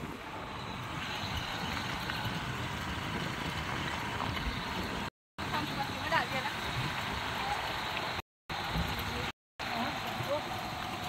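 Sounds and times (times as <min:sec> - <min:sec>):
motorbike engine and road noise: 0:00.0 - 0:11.0.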